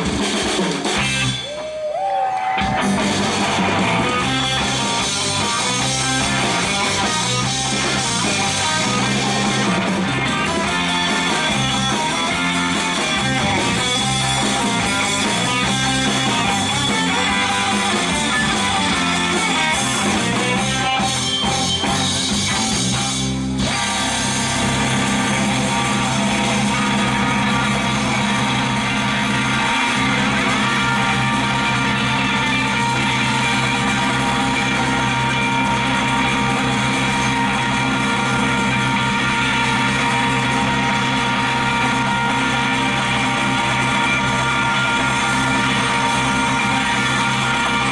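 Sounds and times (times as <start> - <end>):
lead guitar: 0.0 - 47.9
live rock band playing: 0.0 - 47.9.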